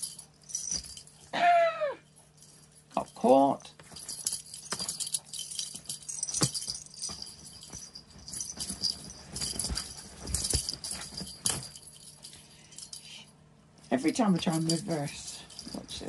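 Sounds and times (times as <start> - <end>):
small bells jingling: 0.0 - 1.3, 2.0 - 16.0.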